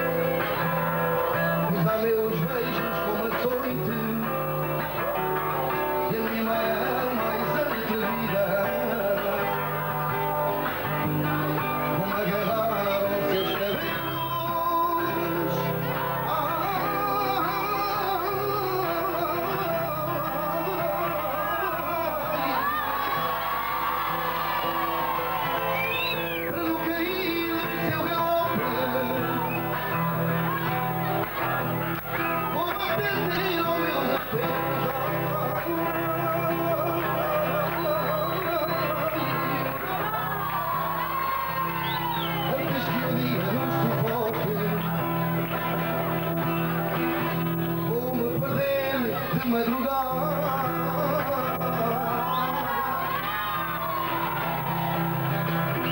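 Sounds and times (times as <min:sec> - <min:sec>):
guitar accompaniment: 0:00.0 - 0:55.9
voices singing: 0:00.0 - 0:55.9.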